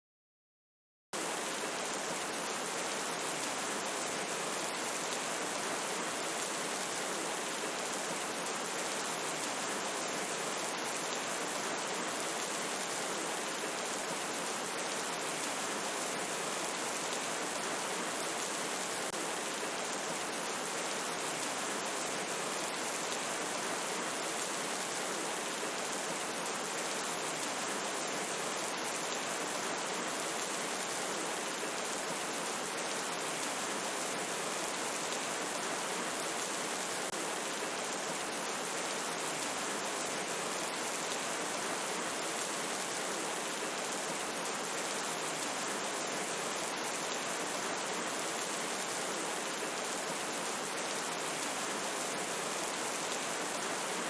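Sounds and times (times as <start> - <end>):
steady rain: 1.2 - 54.0.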